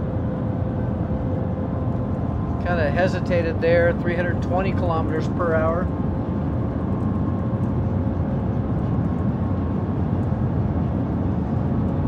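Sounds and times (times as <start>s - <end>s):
train cabin rush and rumble: 0.0s - 12.0s.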